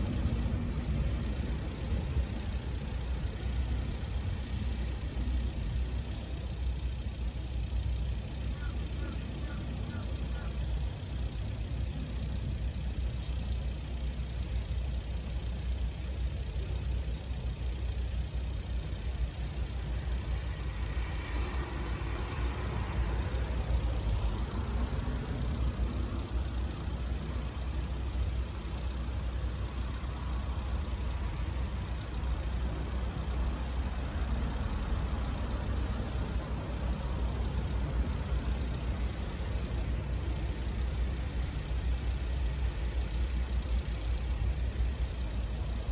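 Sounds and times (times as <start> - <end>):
traffic rumble: 0.0 - 45.9.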